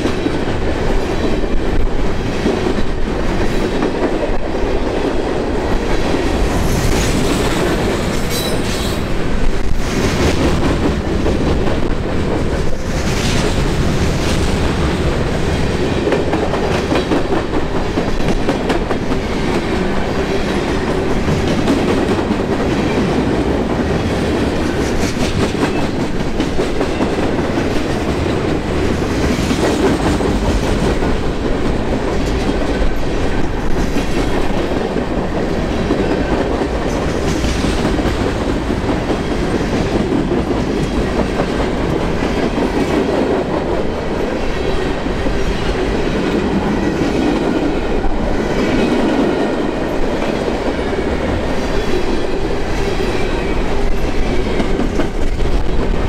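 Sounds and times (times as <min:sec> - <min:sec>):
freight train cars rumbling past: 0:00.0 - 0:56.0.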